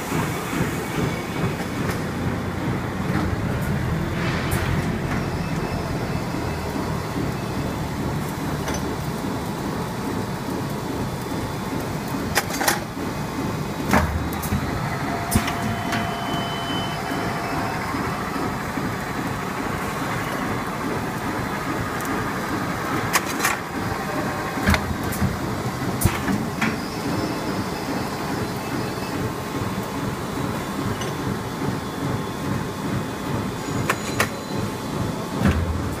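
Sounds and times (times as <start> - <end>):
machine running: 0.0 - 36.0.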